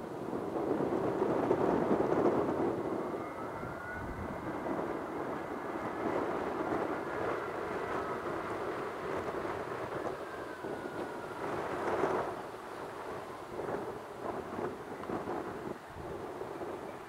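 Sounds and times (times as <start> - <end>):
faint rising whine: 0.0 - 17.0
jet engines rumbling: 0.0 - 17.0.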